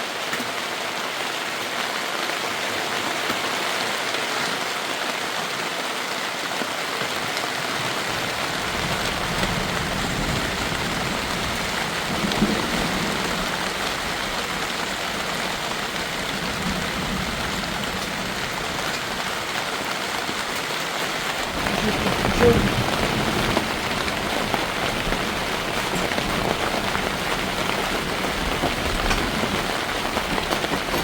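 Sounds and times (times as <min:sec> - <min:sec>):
heavy rain pattering: 0:00.0 - 0:31.0.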